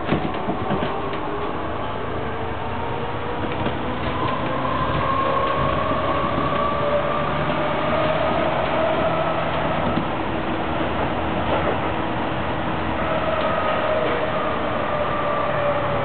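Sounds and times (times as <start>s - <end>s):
train motor whine: 0.0s - 16.0s
train running on track: 0.0s - 16.0s.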